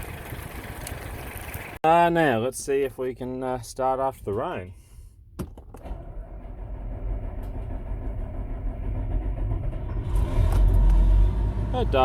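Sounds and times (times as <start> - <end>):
engine rumbling: 0.0 - 3.1, 4.1 - 12.0.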